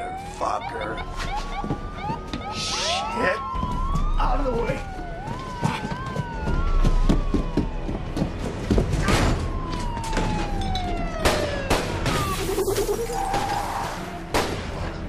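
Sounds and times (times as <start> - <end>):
police siren wailing: 0.0 - 14.4.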